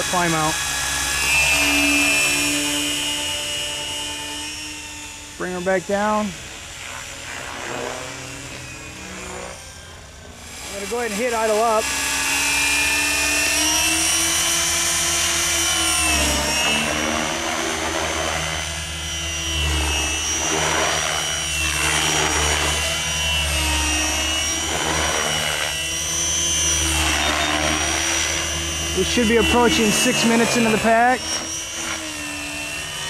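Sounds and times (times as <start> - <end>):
motor and gear whine: 0.0 - 33.0
rotor blades whooshing: 0.0 - 33.0.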